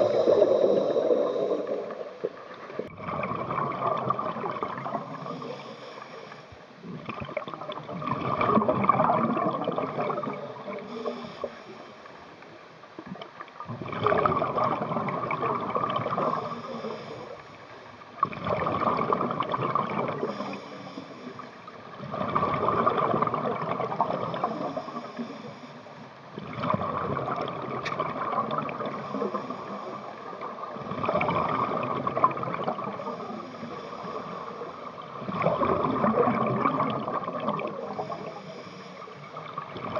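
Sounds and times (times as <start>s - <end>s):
underwater exhale bubbles: 0.0s - 12.2s, 13.0s - 39.9s.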